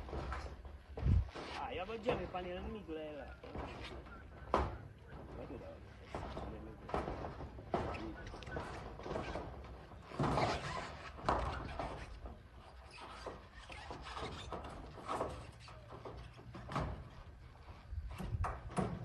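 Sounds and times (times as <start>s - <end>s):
timber scraping and knocking: 0.0s - 19.0s.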